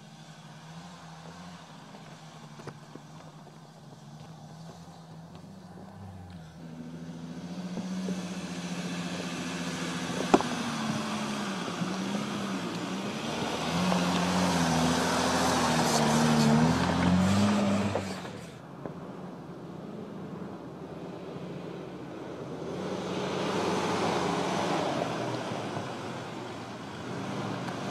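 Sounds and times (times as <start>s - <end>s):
off-road vehicle engine under load: 0.0s - 27.9s.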